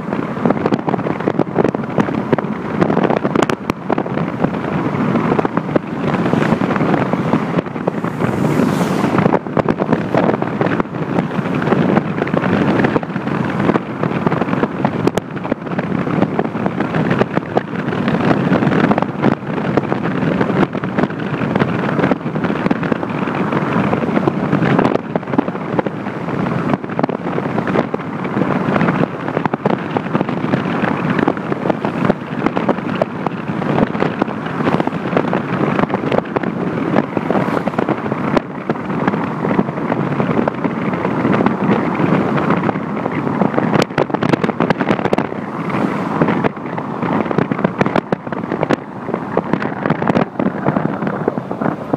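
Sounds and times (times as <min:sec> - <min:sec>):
car tyre and road noise: 0:00.0 - 0:51.9
gusty wind thumps: 0:00.0 - 0:51.9
wind buffeting microphone: 0:00.0 - 0:51.9.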